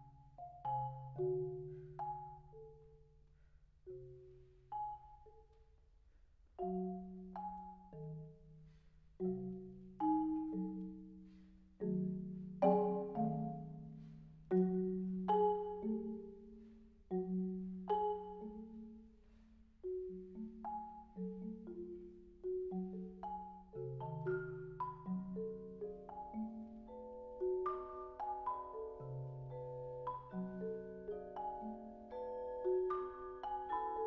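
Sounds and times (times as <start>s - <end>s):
marimba played with soft mallets: 0.0s - 34.0s.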